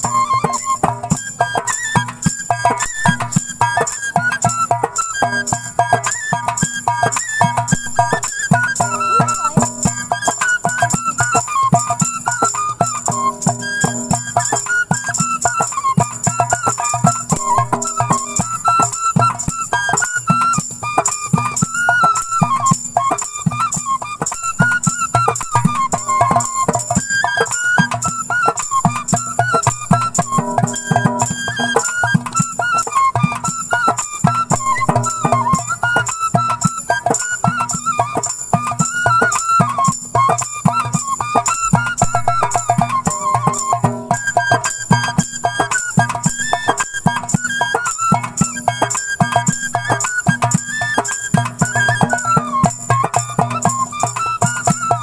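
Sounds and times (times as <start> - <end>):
bamboo flute melody: 0.0 - 55.0
quick steady percussion beat: 0.0 - 55.0.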